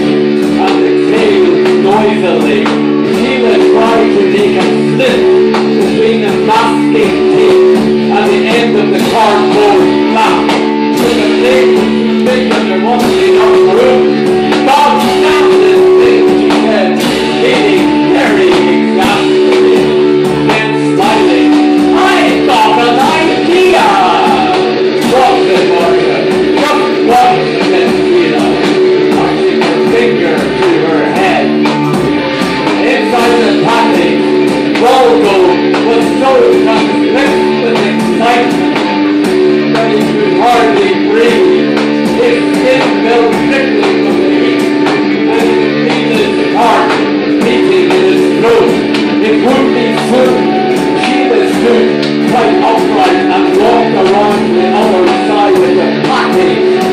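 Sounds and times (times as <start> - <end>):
electric guitars droning: 0.0 - 56.9
sliding guitar melody: 0.0 - 56.9
steady drum beat: 0.0 - 56.9.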